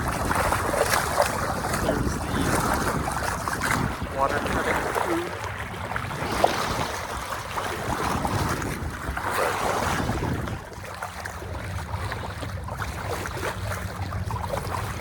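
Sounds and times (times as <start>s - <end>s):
water splashing against hull: 0.0s - 15.0s
wind on microphone: 0.0s - 15.0s.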